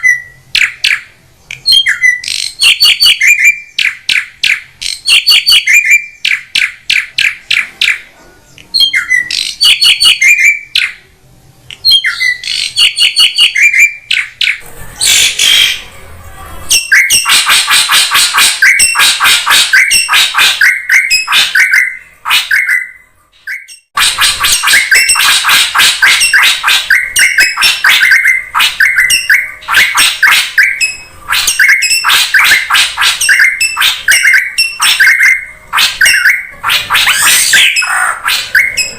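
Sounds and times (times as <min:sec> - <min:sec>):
drongo calls: 0:00.0 - 0:11.1, 0:16.7 - 0:38.9
harsh scratchy bird chattering: 0:00.0 - 0:11.1, 0:11.9 - 0:38.9.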